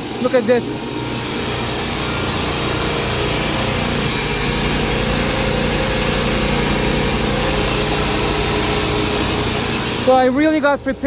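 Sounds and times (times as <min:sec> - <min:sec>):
carpet cleaning machine whine: 0:00.0 - 0:11.0.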